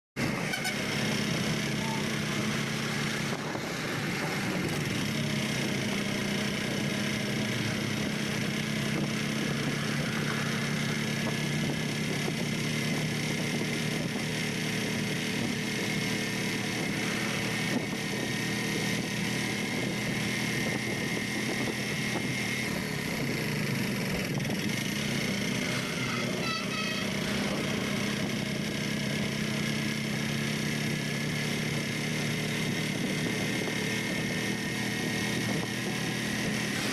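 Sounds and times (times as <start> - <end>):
vehicle engine running: 0.2 - 36.9.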